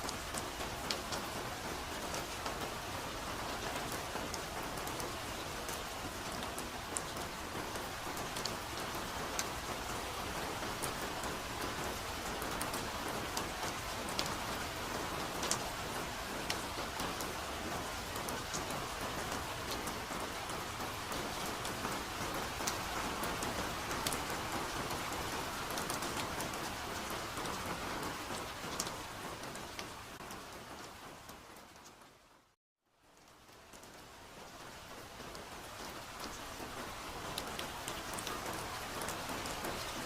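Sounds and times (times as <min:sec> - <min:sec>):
soft rain in forest: 0:00.0 - 0:40.0.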